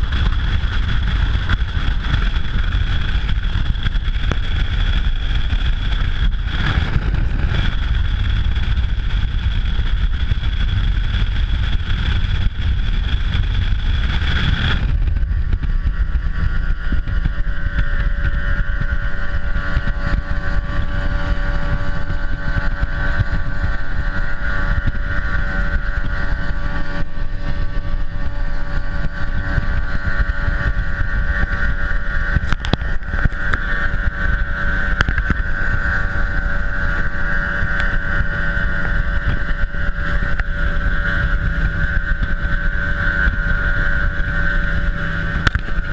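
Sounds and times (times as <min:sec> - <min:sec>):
outboard motor running at speed: 0:00.0 - 0:45.9
wind buffeting microphone: 0:00.0 - 0:45.9.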